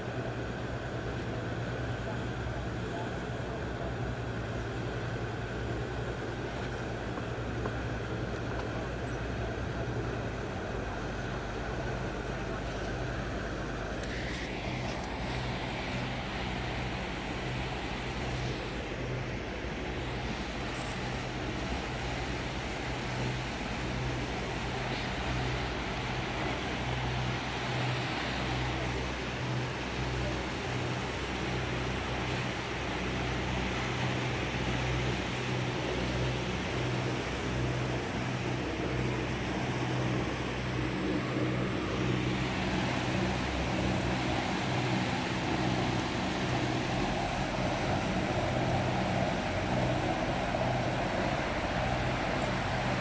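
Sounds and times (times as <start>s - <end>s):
boat engines humming: 0.0s - 53.0s
wind and water hiss: 0.0s - 53.0s.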